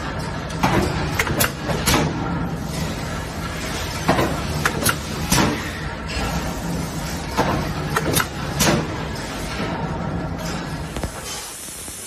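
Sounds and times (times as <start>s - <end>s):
metal press humming: 0.0s - 11.6s.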